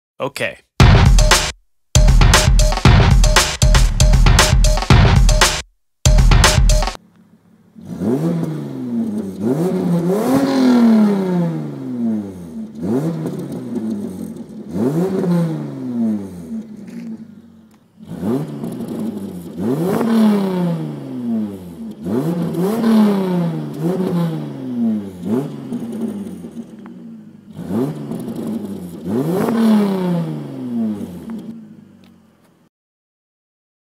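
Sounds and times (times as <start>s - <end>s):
car engine revving: 2.0s - 32.1s.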